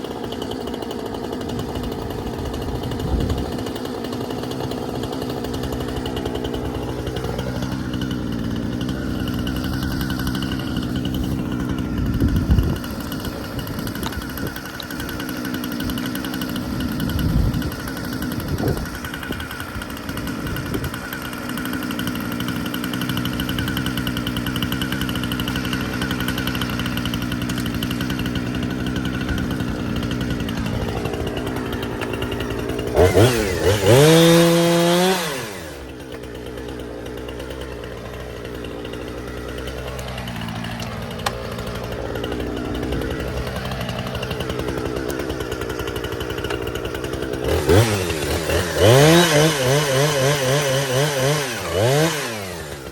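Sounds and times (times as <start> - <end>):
chainsaw idling and revving: 0.0 - 52.9.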